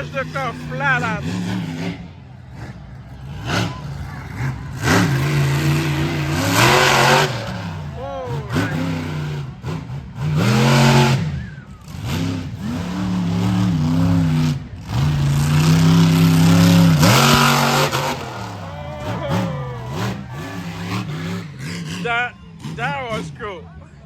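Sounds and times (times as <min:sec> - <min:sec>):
truck engine revving hard: 0:00.0 - 0:23.8.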